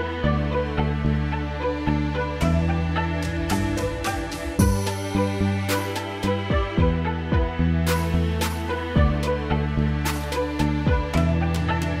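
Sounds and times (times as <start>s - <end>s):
music with sliding bass: 0.0s - 12.0s.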